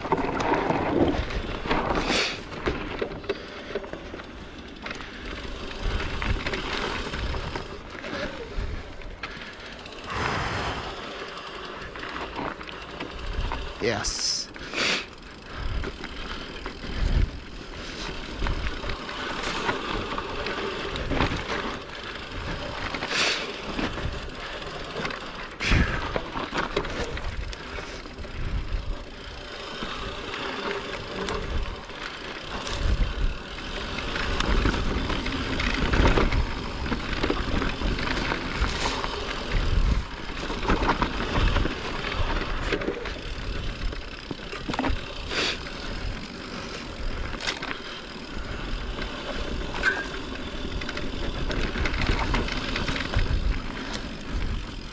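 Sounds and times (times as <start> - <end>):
bike knocking and rattling: 0.0 - 10.2, 10.8 - 54.9
bike tyres on dirt trail: 0.0 - 54.9.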